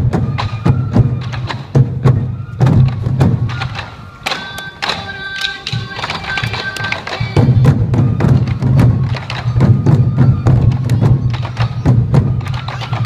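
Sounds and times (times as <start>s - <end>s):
flute held notes: 0.0s - 13.0s
taiko drums beating: 0.0s - 13.0s.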